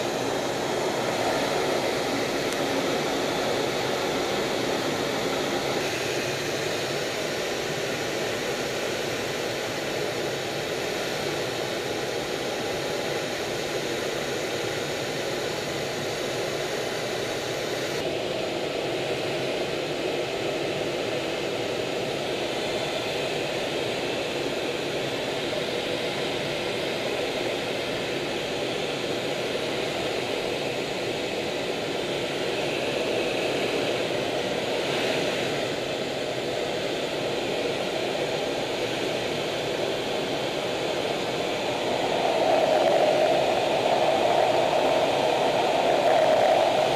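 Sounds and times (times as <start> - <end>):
aircraft engine roar: 0.0 - 46.9.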